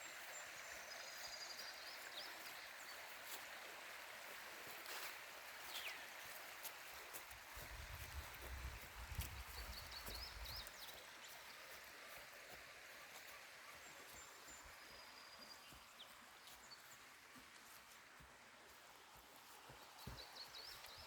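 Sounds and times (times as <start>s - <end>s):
flowing water: 0.0s - 21.0s
songbird chirps: 0.0s - 21.0s.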